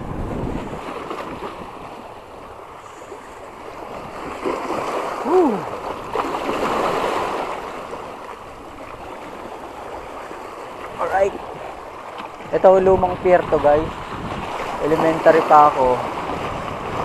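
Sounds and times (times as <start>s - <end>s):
sea water lapping at shore: 0.0s - 17.0s.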